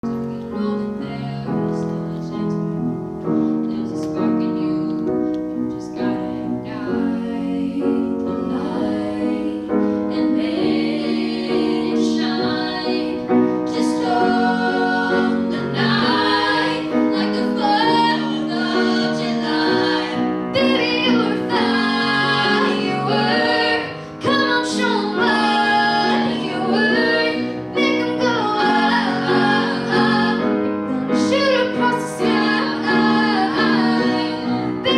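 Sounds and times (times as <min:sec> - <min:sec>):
piano accompaniment: 0:00.0 - 0:34.9
woman singing: 0:00.2 - 0:02.7, 0:03.7 - 0:34.9.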